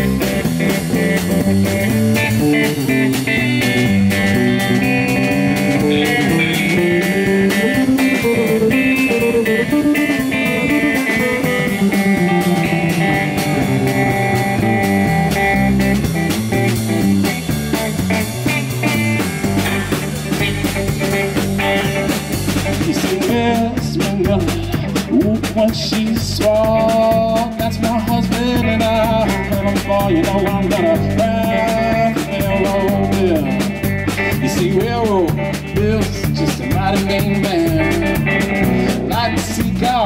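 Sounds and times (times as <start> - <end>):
blues band playing live: 0.0 - 40.0
stepping bass line: 0.0 - 40.0.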